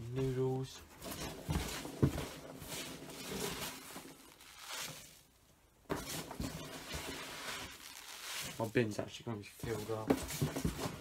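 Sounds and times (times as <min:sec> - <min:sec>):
packing peanuts rustling and squeaking: 0:00.1 - 0:11.0.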